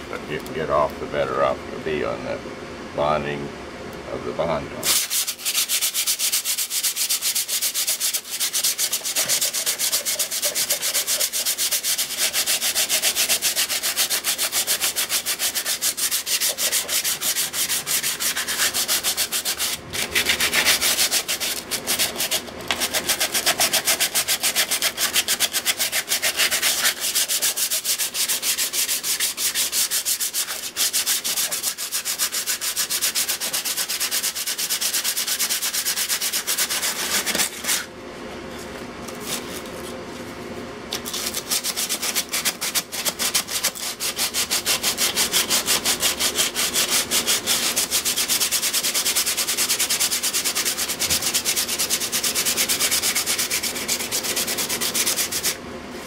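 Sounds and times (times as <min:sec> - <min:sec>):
sandpaper rubbing on metal: 0:04.8 - 0:37.9, 0:41.0 - 0:55.6.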